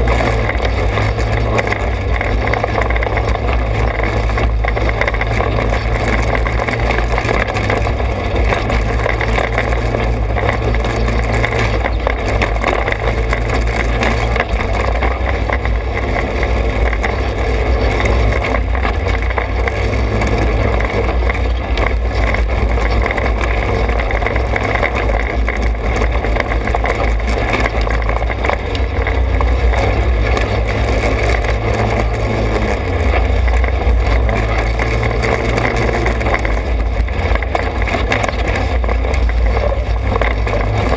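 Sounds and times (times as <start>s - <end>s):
small engine rumbling: 0.0s - 40.9s.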